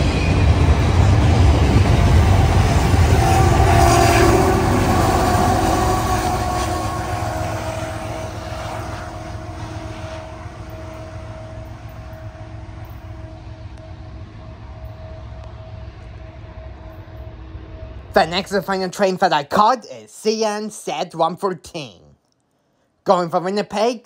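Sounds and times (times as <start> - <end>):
diesel freight train rumbling: 0.0 - 21.2.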